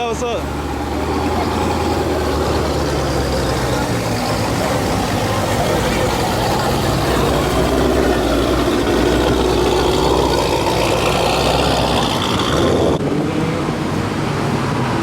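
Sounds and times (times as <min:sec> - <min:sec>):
car engine accelerating: 0:00.0 - 0:15.0
road noise hiss: 0:00.0 - 0:15.0.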